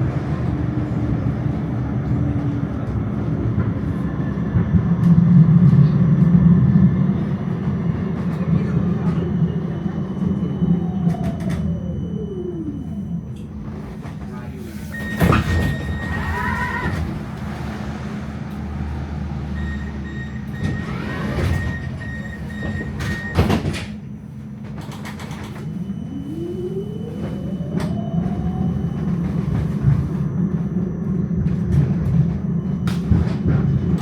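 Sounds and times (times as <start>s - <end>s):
tram motor whine rising: 0.0s - 34.0s
tram rumbling on rails: 0.0s - 34.0s.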